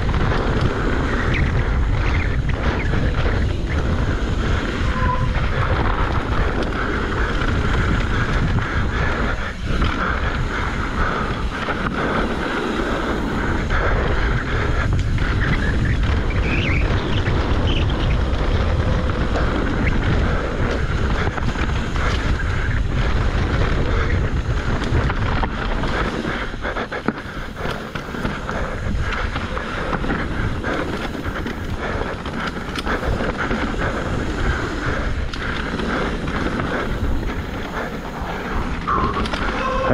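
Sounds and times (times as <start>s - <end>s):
bike knocks and rattles: 0.0s - 39.6s
bike tyres rolling over dirt: 0.0s - 39.9s
wind buffeting microphone: 0.0s - 39.9s.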